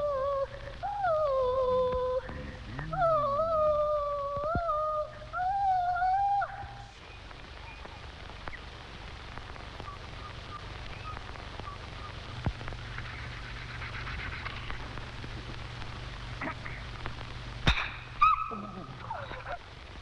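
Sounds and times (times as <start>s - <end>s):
film soundtrack hiss and crackle: 0.0s - 20.0s
low hum: 0.0s - 20.0s.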